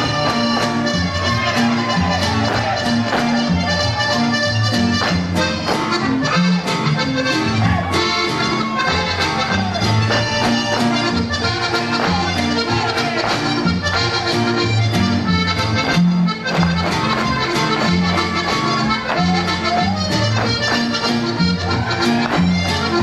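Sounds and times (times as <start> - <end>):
accordion dance music: 0.0 - 23.0.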